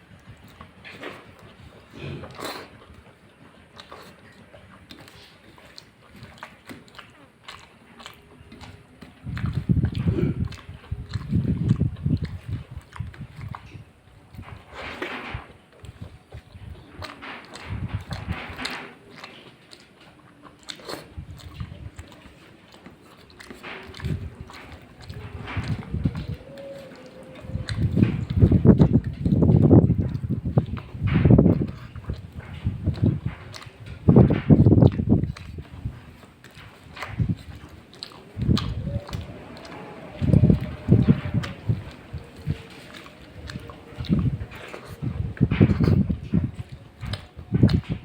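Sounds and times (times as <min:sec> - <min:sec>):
close chewing: 0:00.0 - 0:48.0
wet mouth clicks and smacks: 0:03.7 - 0:48.0.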